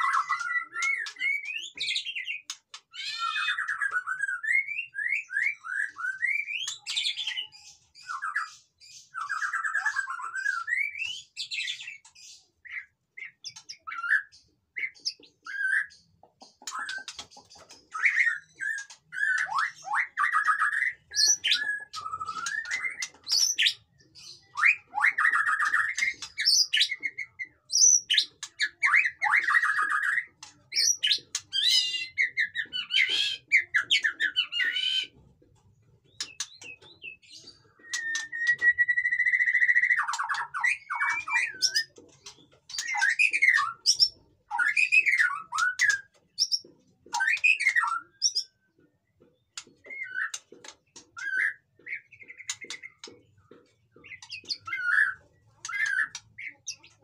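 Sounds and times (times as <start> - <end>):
songbird singing whistles and chatters: 0.0 - 35.2, 35.8 - 57.0.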